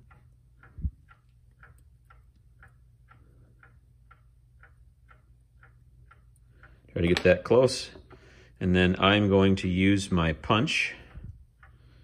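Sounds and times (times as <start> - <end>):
mechanical clock ticking: 0.0 - 12.0.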